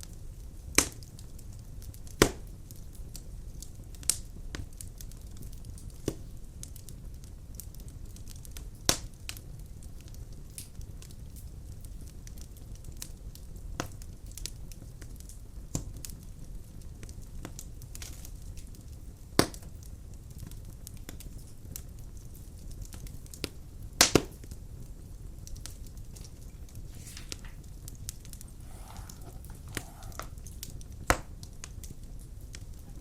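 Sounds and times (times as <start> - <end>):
fire crackling and popping: 0.0 - 33.0
low rumble of flame: 0.0 - 33.0.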